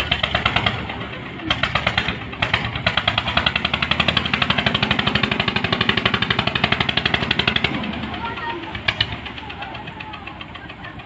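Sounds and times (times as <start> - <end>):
engine knocking: 0.0 - 11.0.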